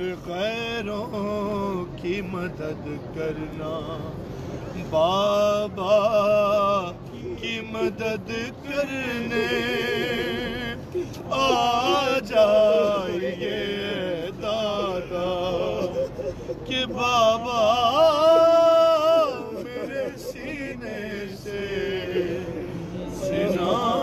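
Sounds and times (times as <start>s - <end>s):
man chanting a lament: 0.0s - 24.0s.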